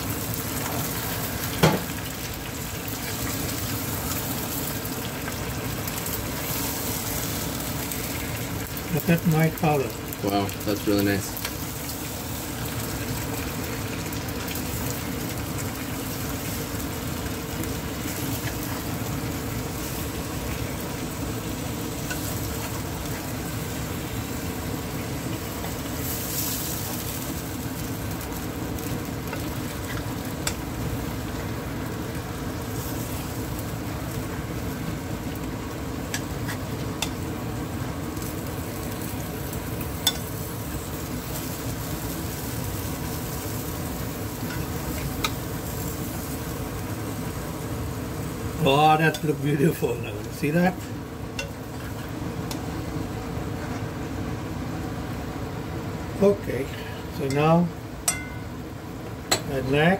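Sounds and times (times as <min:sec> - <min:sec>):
fruit sizzling in hot oil: 0:00.0 - 0:59.9.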